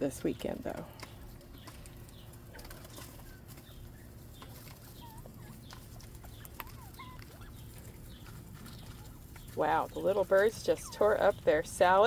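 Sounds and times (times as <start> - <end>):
quail chirping: 1.0 - 12.0.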